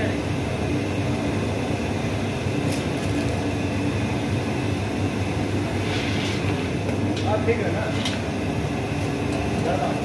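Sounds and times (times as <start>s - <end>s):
popcorn roaster drum rumbling: 0.0s - 10.0s.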